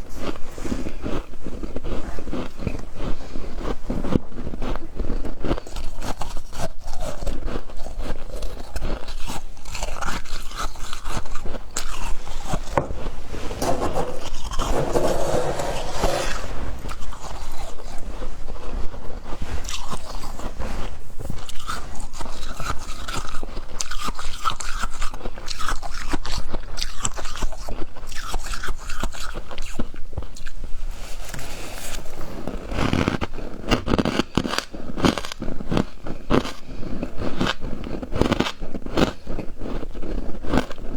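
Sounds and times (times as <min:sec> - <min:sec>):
ice being chewed and crunched: 0:00.0 - 0:40.9.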